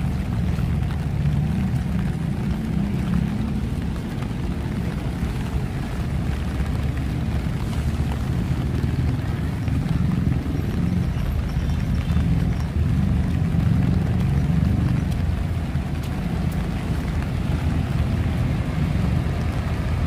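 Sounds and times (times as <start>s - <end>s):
rain falling: 0.0s - 20.0s
road traffic rumble: 0.0s - 20.0s.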